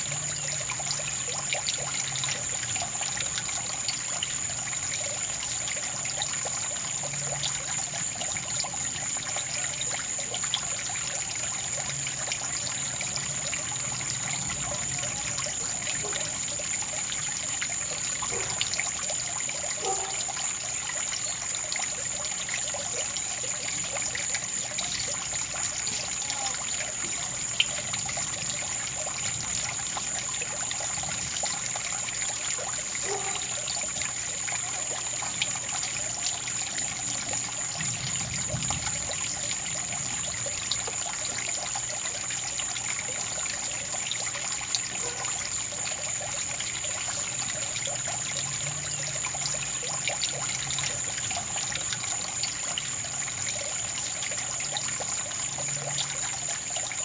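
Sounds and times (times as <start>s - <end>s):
small water drips: 0.0s - 57.0s
water trickling: 0.0s - 57.0s.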